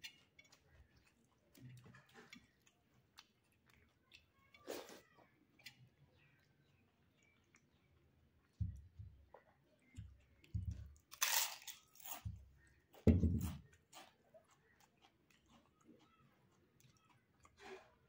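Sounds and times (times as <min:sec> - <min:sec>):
dull chewing sounds: 0:00.0 - 0:18.0.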